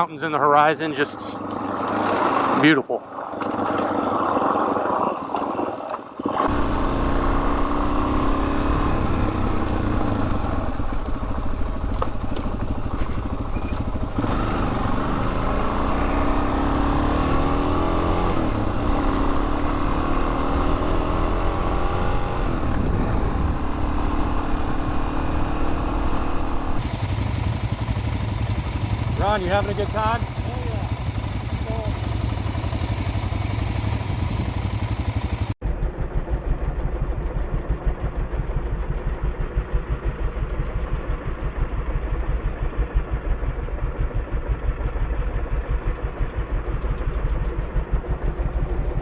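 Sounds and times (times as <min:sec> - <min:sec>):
motorcycle engine revving: 0:01.0 - 0:04.8, 0:06.2 - 0:49.0.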